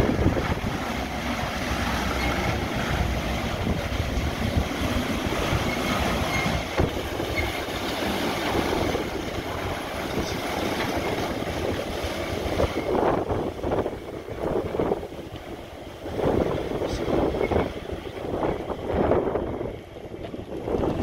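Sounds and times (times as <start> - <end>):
car wash brushes and water spray: 0.0 - 19.2.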